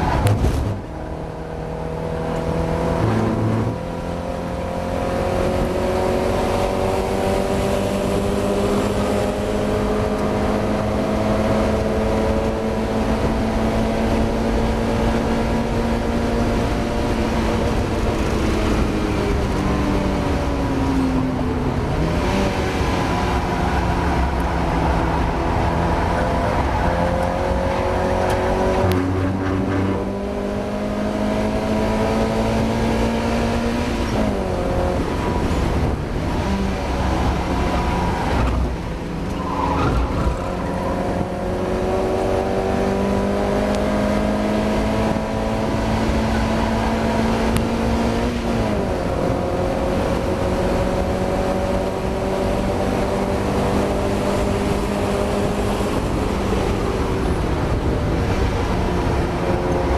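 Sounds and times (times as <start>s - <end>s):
race car engine pulling hard: 0.0s - 59.9s.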